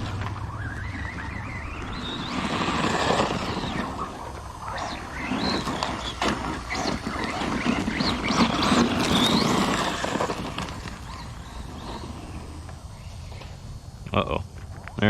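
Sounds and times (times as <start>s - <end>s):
drivetrain and tyre noise: 0.0s - 15.0s
electric motor whining: 0.0s - 15.0s.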